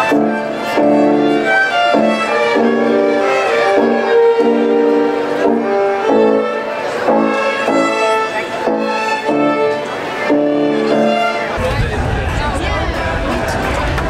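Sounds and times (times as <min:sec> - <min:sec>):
violins playing a tune: 0:00.0 - 0:11.6.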